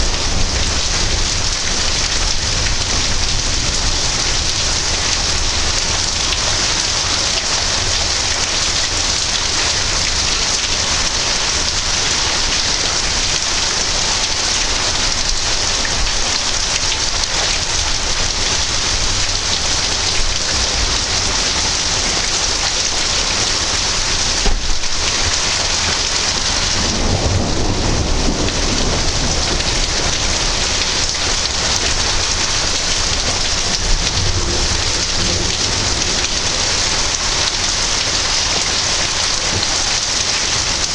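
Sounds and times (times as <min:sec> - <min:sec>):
steady rain hiss: 0:00.0 - 0:40.9
thunder crack and rumble: 0:00.0 - 0:40.9.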